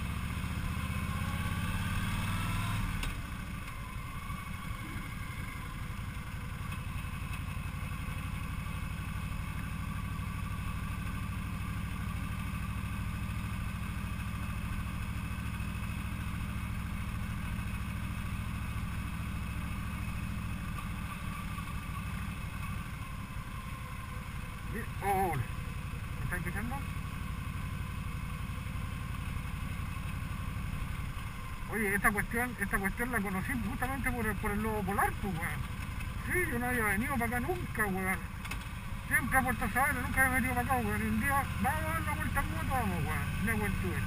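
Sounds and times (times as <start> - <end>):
motorcycle engine cruising: 0.0 - 44.0.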